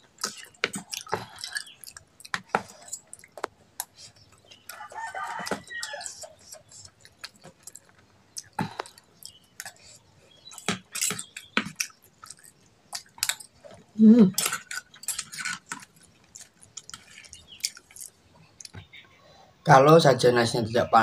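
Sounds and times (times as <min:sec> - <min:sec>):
chewing: 0:00.0 - 0:18.9.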